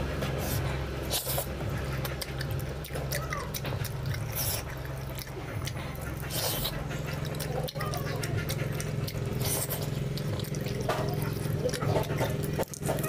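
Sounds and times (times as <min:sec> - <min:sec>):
person chewing meat: 0:00.0 - 0:13.0
steady low hum: 0:00.0 - 0:13.0.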